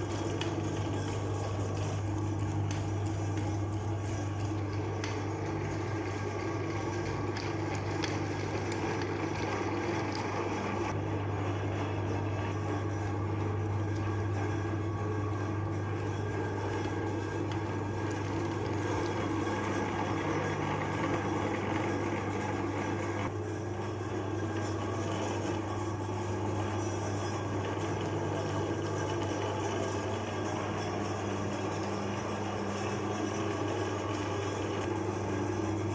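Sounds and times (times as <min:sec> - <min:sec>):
meat grinder motor humming: 0:00.0 - 0:35.9.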